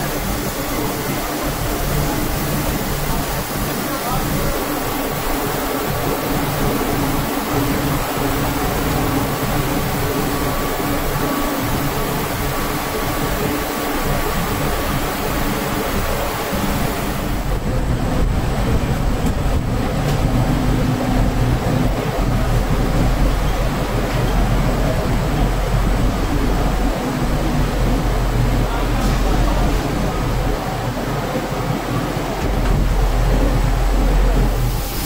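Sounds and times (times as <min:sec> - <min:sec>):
deep machine hum: 0:00.0 - 0:35.0
machinery hiss and hum: 0:00.0 - 0:35.0.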